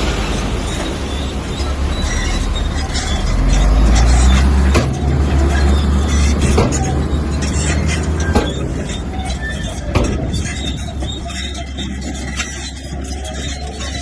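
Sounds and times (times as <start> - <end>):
bulldozer diesel engine under load: 0.0 - 14.0
sharp metallic clanks: 1.6 - 14.0.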